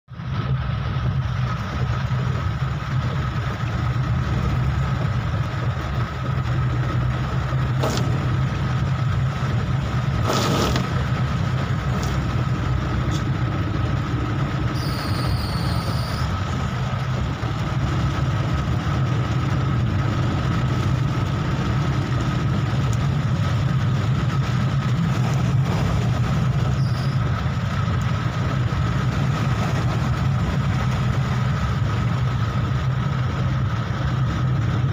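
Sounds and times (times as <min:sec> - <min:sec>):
car engine and road rumble: 0:00.0 - 0:34.9
rain and wet tyres hiss: 0:00.1 - 0:34.9.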